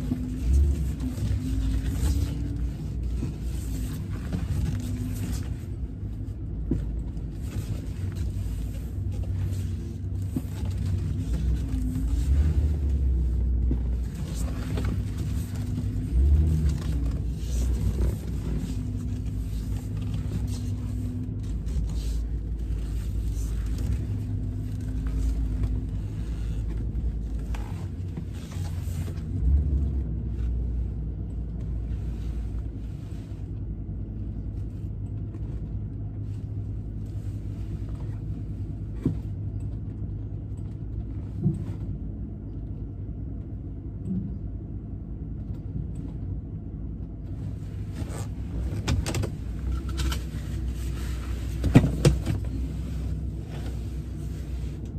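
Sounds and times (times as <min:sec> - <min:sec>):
truck engine and road rumble: 0:00.0 - 0:54.9.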